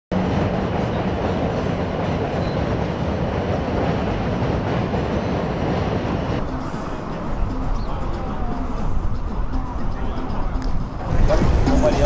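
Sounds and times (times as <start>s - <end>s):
subway train rumbling on tracks: 0.1s - 12.0s.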